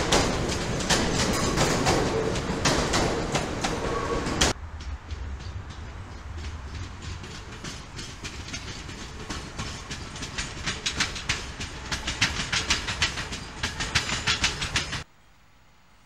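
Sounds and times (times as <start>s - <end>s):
train wheels clacking over rail joints: 0.0s - 15.1s
train low rumble: 0.0s - 15.3s.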